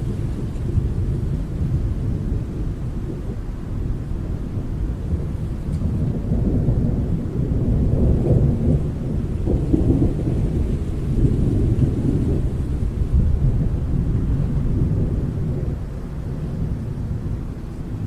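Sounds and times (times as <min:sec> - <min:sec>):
rain: 0:00.0 - 0:18.0
thunder rumbling: 0:00.0 - 0:18.0.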